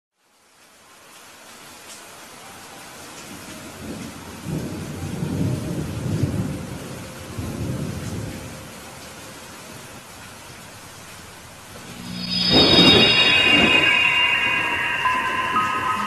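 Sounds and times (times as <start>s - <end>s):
rain hiss: 0.2s - 16.0s.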